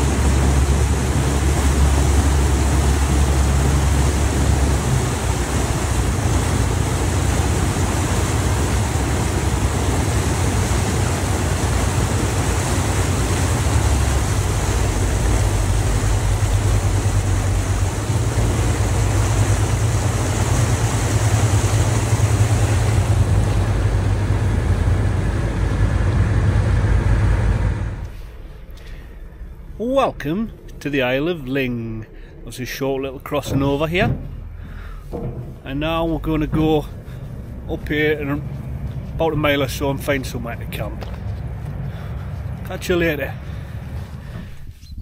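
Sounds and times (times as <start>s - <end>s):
propeller wash churning: 0.0s - 29.0s, 29.8s - 44.7s
boat engine deep hum: 0.0s - 45.0s.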